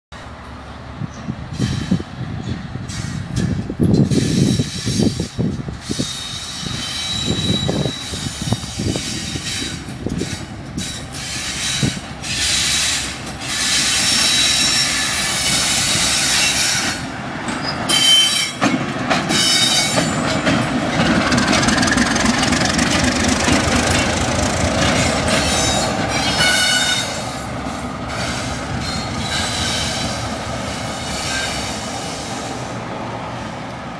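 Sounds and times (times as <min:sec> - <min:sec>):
diesel locomotive engine: 0:00.1 - 0:33.9
train wheels squealing: 0:01.1 - 0:18.7, 0:19.3 - 0:23.1, 0:24.8 - 0:27.5, 0:28.1 - 0:32.6.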